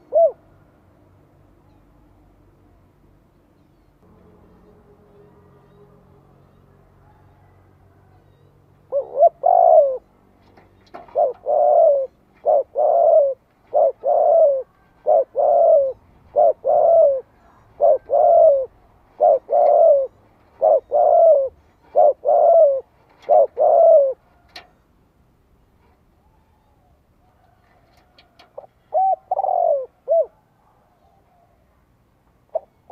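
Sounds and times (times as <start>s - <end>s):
dove cooing: 0.0s - 0.6s, 4.5s - 24.7s, 26.2s - 31.6s, 32.5s - 32.9s.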